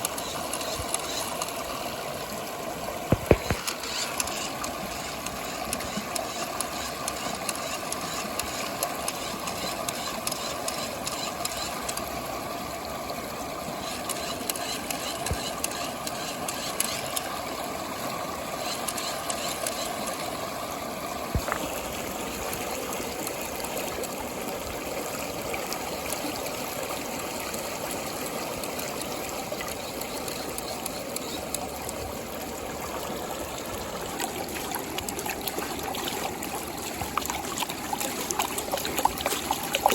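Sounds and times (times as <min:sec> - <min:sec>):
water swirling in a tube: 0:00.0 - 0:39.9.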